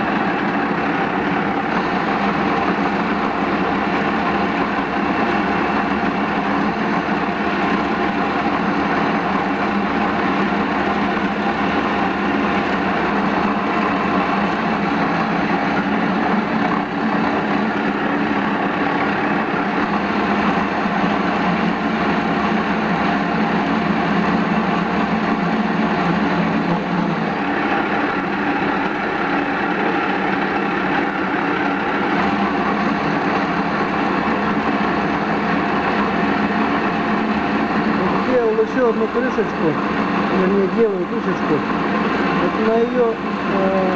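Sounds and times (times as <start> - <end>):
metal lathe drone: 0.0 - 43.9.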